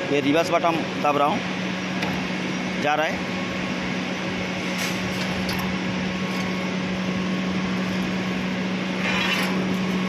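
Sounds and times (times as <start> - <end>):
electric hoist motor humming: 0.0 - 10.0.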